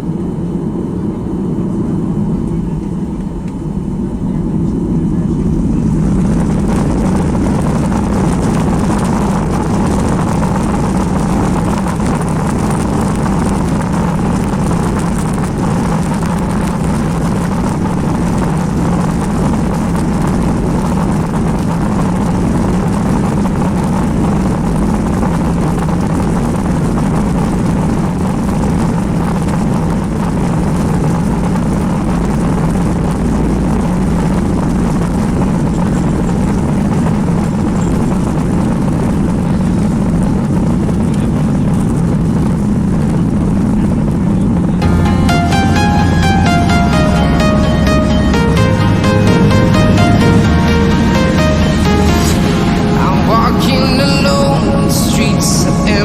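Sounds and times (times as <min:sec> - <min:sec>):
airliner cabin noise: 0:00.0 - 0:56.0
jet engines spooling up: 0:00.0 - 0:56.0.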